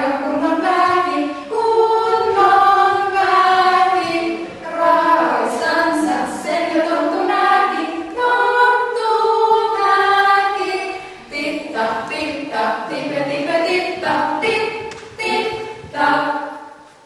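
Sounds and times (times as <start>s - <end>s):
women singing a cappella: 0.0s - 16.8s.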